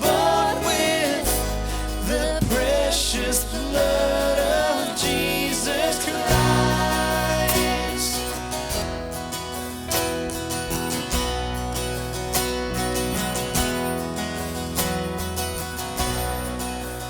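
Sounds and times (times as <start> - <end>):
acoustic guitar strumming: 0.0 - 17.0
bass: 0.0 - 17.0
sustained keyboard chords: 0.0 - 17.0.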